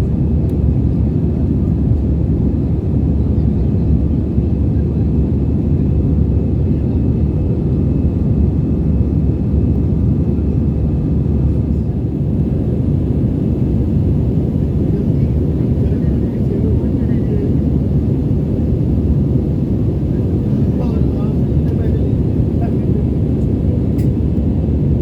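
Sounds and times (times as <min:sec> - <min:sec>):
engine and airflow rush: 0:00.0 - 0:25.0.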